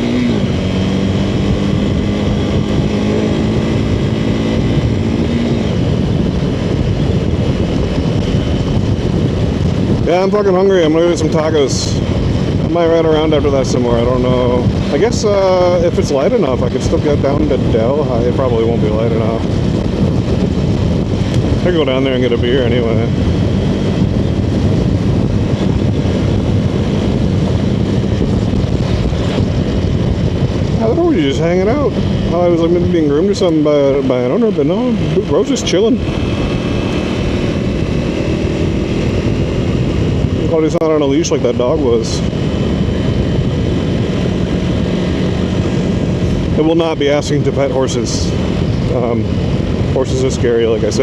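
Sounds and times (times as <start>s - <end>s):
motorcycle engine running: 0.0s - 51.0s
wind on helmet mic: 0.0s - 51.0s.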